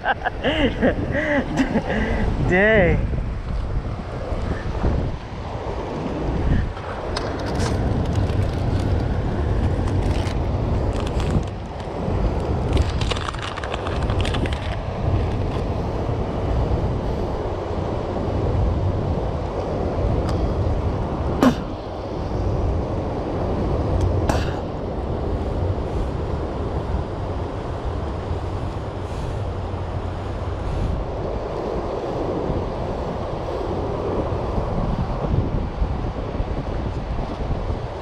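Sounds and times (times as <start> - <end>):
wind on microphone: 0.0 - 38.0.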